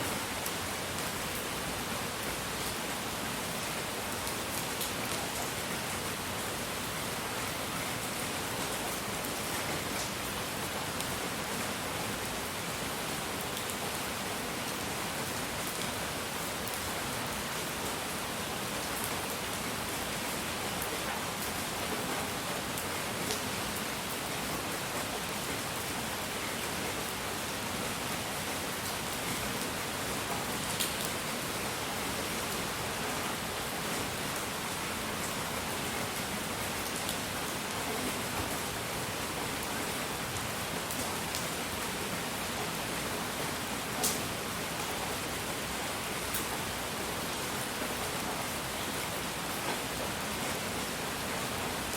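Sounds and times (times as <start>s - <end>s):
continuous rain-like hiss: 0.0s - 51.9s.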